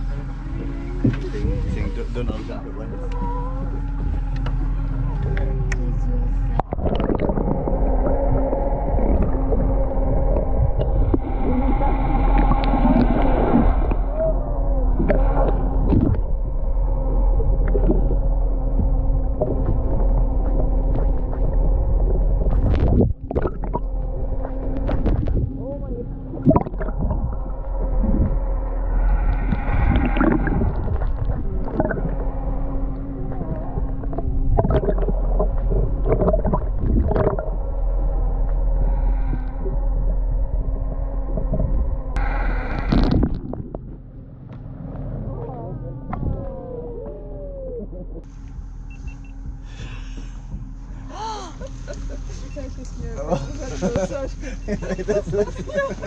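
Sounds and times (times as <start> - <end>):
faint wavering whale tones: 0.0 - 56.0
low underwater rumble with crackling: 0.0 - 56.0
water gurgling and sloshing: 0.0 - 56.0.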